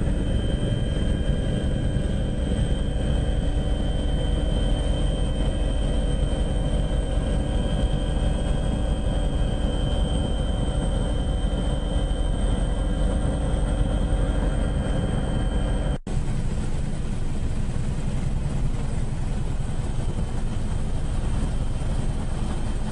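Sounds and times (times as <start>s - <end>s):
aircraft engine drone: 0.0s - 22.9s.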